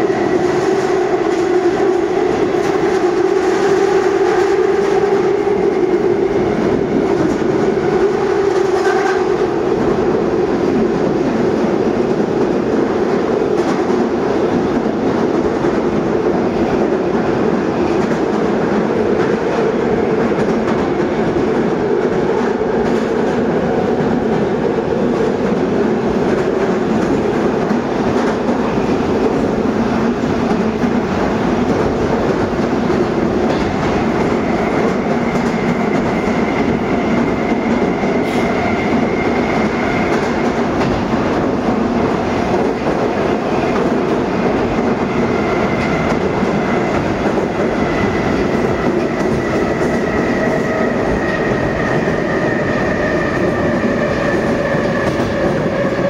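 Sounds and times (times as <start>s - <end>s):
train wheels rumbling on rails: 0.0s - 56.0s
rail clicks: 0.1s - 56.0s.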